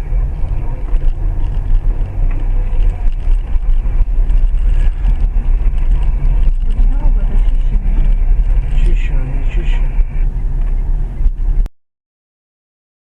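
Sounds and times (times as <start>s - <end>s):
vehicle engine and road noise: 0.0s - 11.7s.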